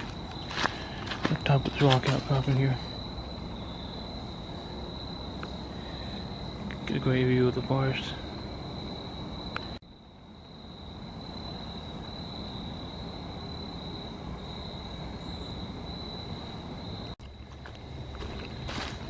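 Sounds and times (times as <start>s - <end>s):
crickets trilling: 0.0s - 19.0s
low rumbling background noise: 0.0s - 19.0s.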